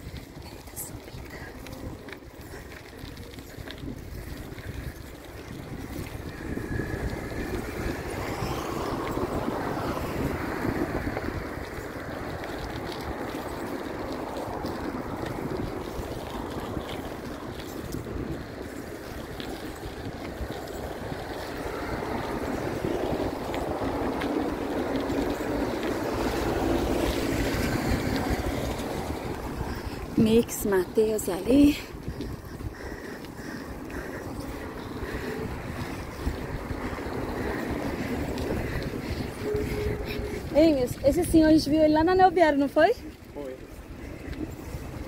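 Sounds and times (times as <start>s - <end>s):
street traffic: 0.0s - 45.0s
wind rushing over microphone: 0.0s - 45.0s.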